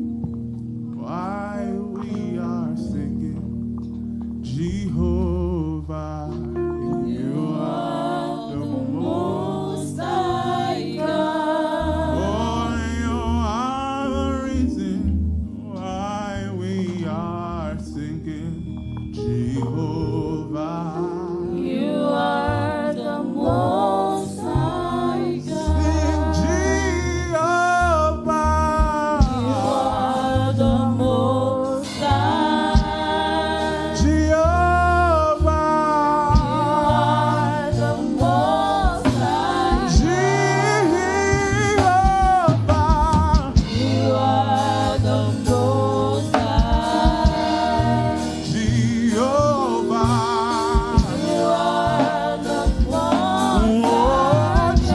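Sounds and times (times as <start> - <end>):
band with steady bass: 0.0 - 54.9
group singing a gospel song: 5.9 - 54.9.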